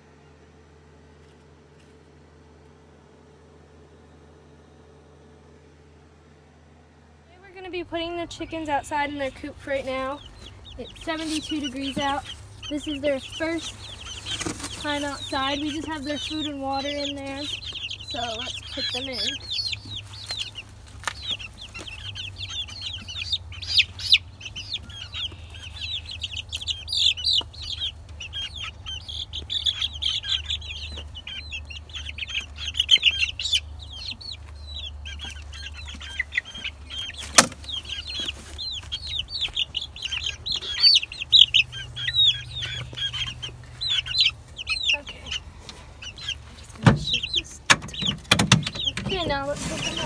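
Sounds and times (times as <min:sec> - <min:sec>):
chicks peeping: 0:07.4 - 0:50.0.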